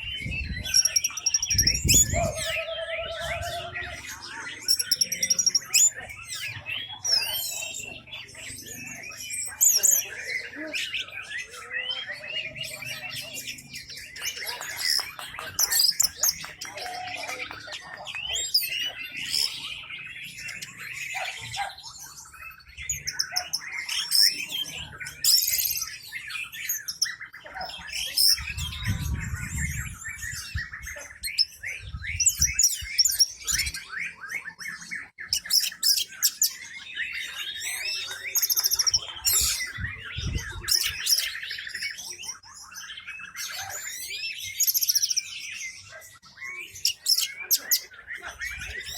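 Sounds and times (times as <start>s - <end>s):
bird singing: 0.0s - 48.9s.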